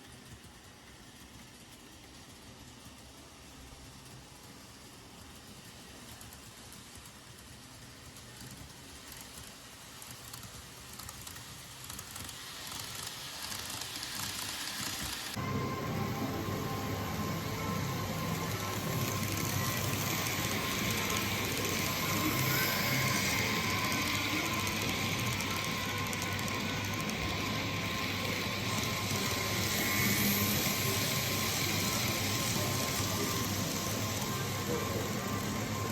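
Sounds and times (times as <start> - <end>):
model train rolling on track: 0.0 - 35.9.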